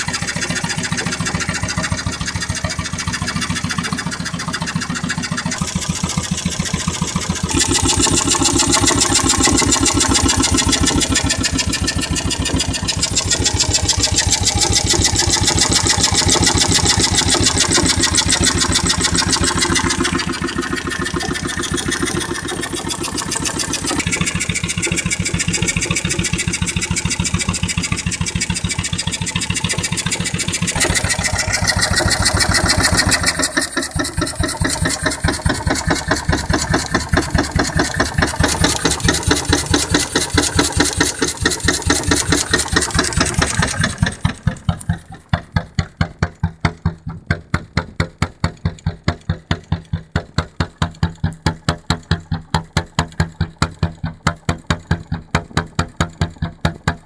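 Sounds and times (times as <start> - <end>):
boat engine firing steadily: 0.0 - 57.0.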